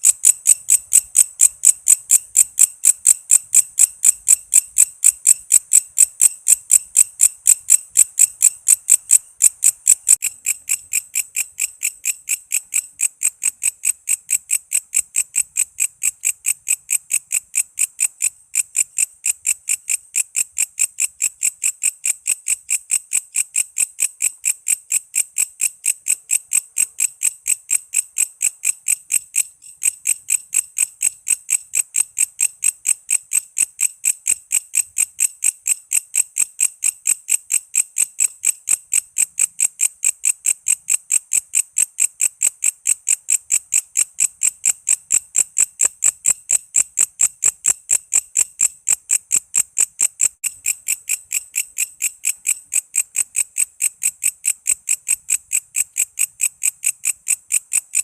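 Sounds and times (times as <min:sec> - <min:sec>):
katydid chirping: 0:00.0 - 0:33.4, 0:41.8 - 0:57.6.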